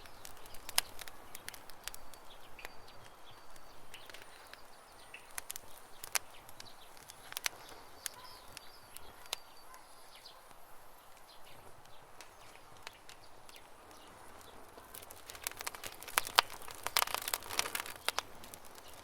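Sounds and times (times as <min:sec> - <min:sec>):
birds chirping: 0:00.0 - 0:19.0
campfire crackling: 0:00.0 - 0:19.0.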